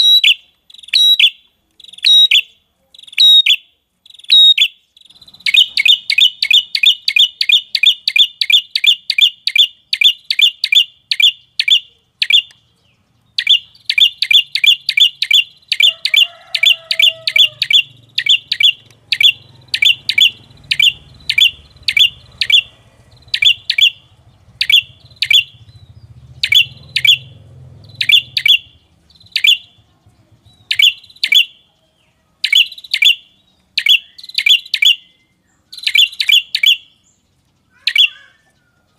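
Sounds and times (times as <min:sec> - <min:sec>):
bird chirping sharply: 0:00.0 - 0:38.9.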